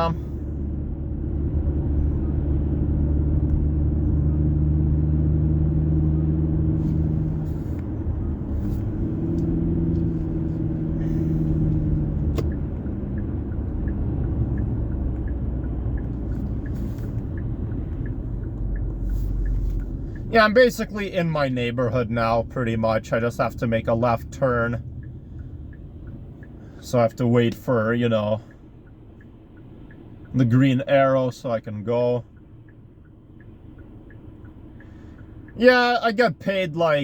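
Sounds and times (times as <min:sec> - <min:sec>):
car engine and road rumble: 0:00.0 - 0:37.0
turn signal ticking: 0:00.0 - 0:37.0.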